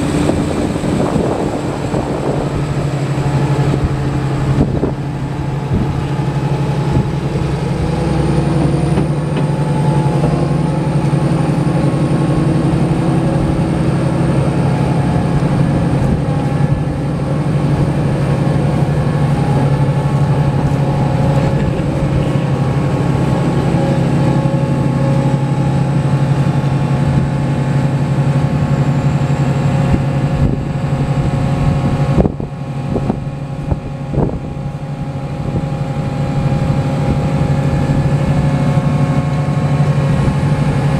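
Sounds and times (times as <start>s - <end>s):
diesel tractor engine idling: 0.0s - 40.9s.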